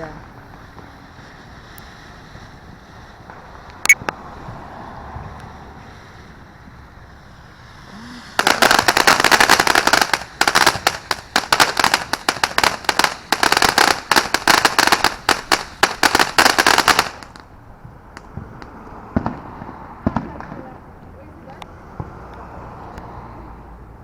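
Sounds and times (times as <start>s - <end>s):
firework crackling pops: 0.0s - 22.4s.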